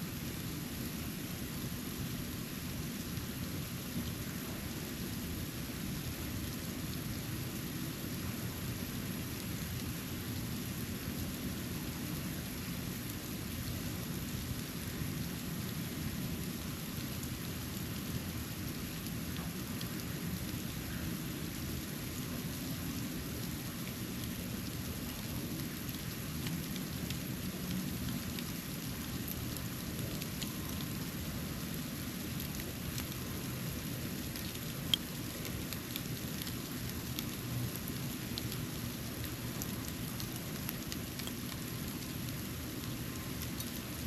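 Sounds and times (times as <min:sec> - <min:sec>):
snow falling hiss: 0:00.0 - 0:44.0.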